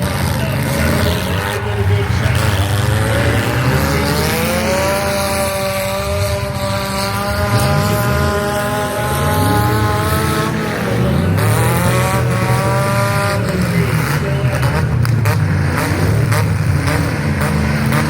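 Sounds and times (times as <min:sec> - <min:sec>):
car engine revving high: 0:00.0 - 0:18.0
rumble of other engines: 0:00.0 - 0:18.0.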